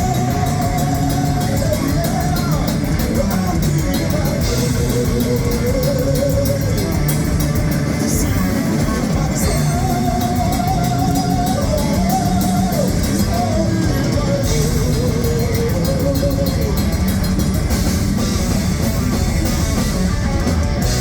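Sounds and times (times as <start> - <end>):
distorted electric guitars: 0.0 - 21.0
drum kit with cymbals: 0.0 - 21.0.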